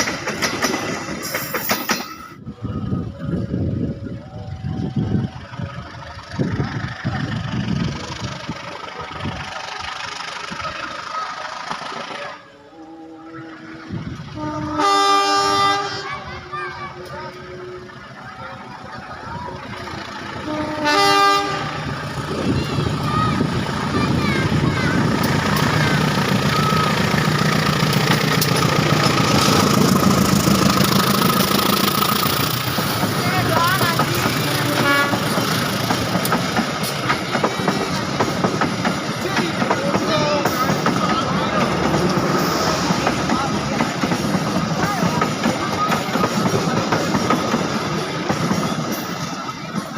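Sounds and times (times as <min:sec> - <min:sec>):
diesel locomotive engine rumbling: 0:00.0 - 0:49.9.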